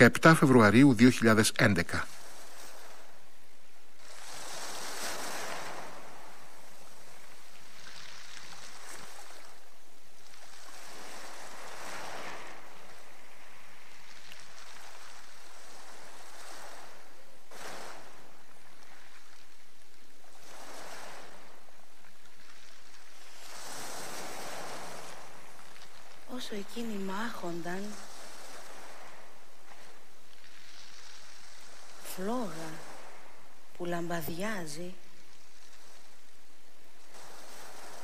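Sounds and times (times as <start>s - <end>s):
sea waves breaking: 0.0s - 38.0s.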